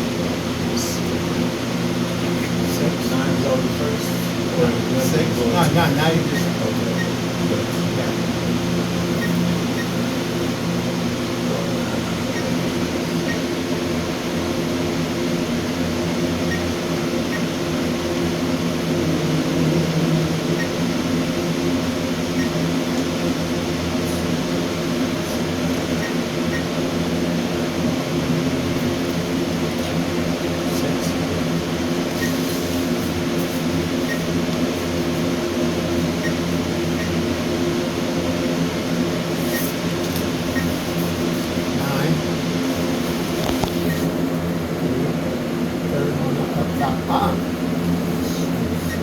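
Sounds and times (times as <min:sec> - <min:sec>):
ventilation hum: 0:00.0 - 0:49.0.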